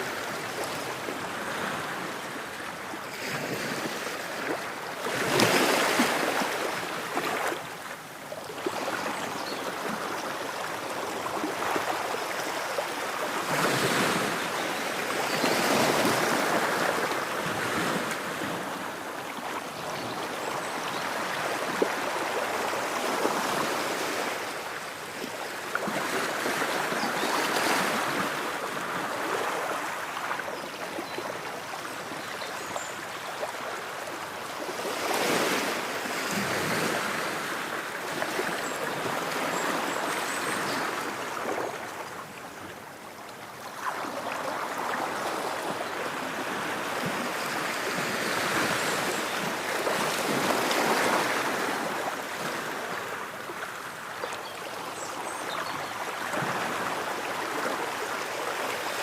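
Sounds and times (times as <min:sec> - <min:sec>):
ocean waves washing ashore: 0:00.0 - 0:59.0.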